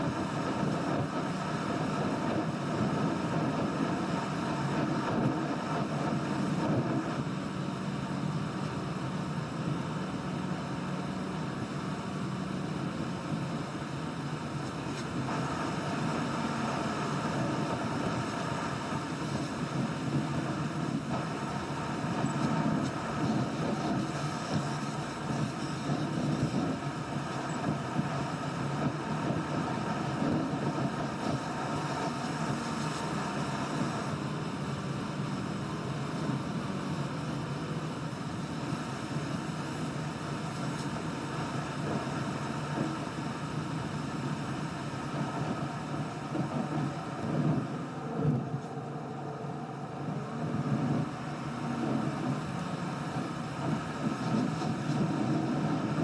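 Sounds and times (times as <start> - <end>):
car tyre and road noise: 0.0 - 56.0.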